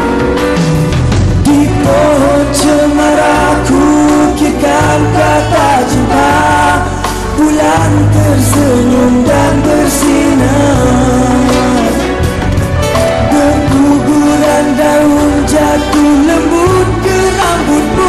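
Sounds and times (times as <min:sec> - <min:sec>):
live band playing pop ballad: 0:00.0 - 0:18.0
man singing: 0:01.4 - 0:12.4, 0:13.0 - 0:18.0.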